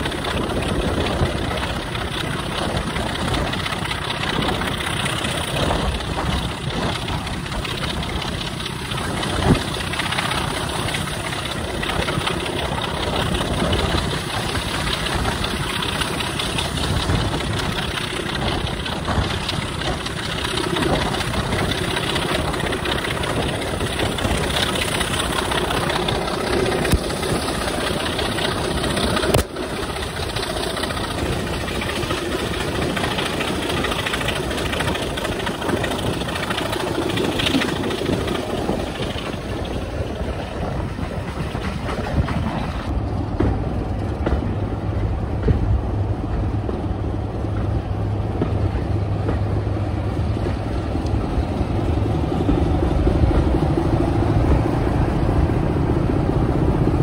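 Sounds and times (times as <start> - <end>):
diesel engine running: 0.0 - 57.0
wind and wheel noise: 0.0 - 57.0.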